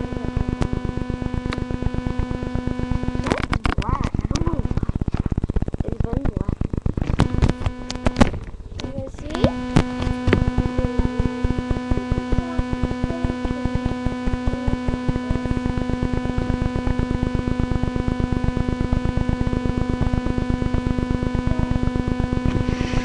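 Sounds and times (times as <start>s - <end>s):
electrical interference buzz: 0.0s - 23.0s.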